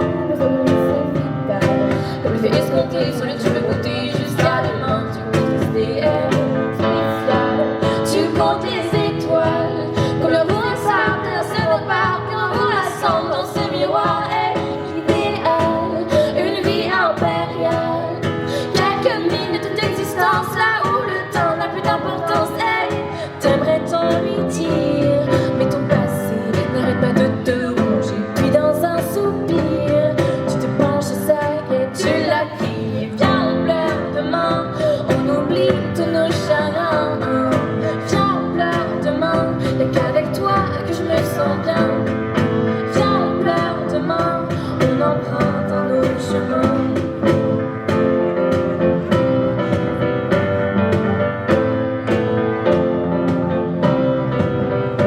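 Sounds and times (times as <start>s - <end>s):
woman singing: 0.0s - 48.0s
instrumental backing with beat: 0.0s - 55.0s.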